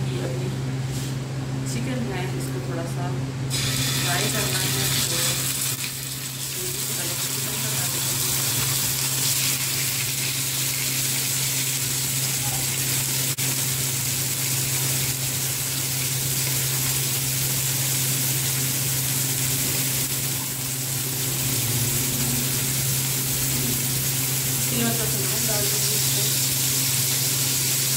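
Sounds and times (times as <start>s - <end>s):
chicken sizzling in hot oil: 3.5s - 27.9s.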